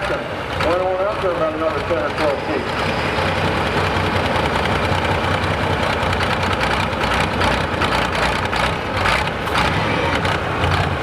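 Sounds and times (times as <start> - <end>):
tractor diesel engine rumbling: 0.0 - 11.0.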